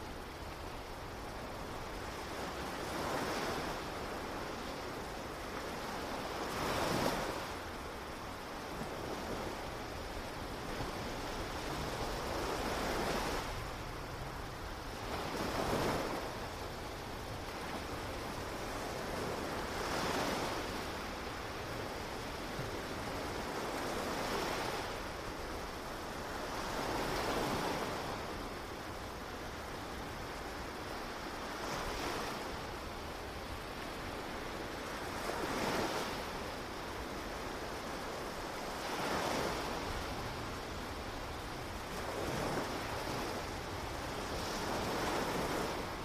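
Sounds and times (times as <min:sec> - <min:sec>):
ocean surf breaking on shore: 0:00.0 - 0:46.0.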